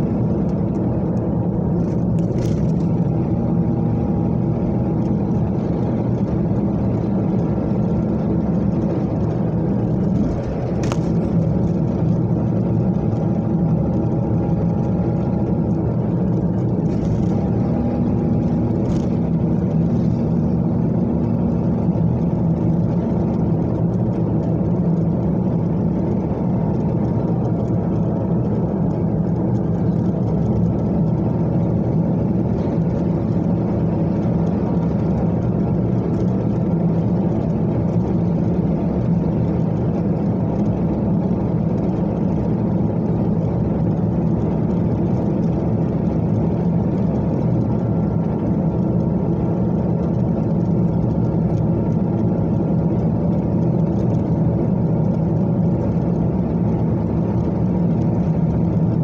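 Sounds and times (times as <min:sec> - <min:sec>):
car cruising interior rumble: 0:00.0 - 0:59.0.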